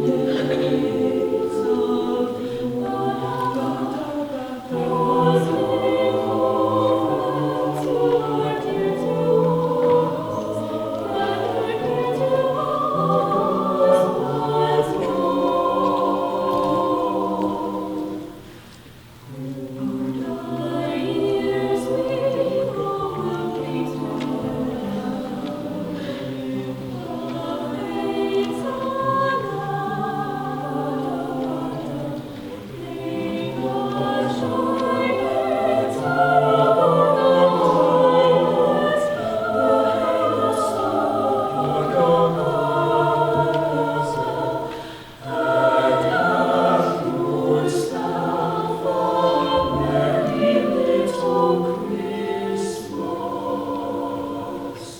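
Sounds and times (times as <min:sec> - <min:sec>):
choir singing a cappella: 0:00.0 - 0:54.9.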